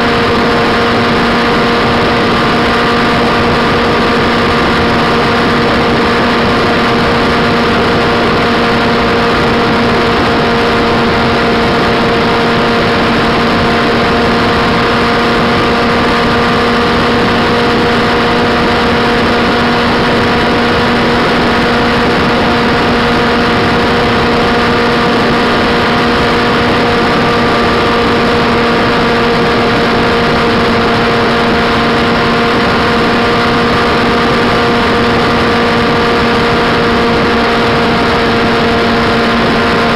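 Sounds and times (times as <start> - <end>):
motorcycle engine drone: 0.0 - 39.9
wind and road rush: 0.0 - 39.9.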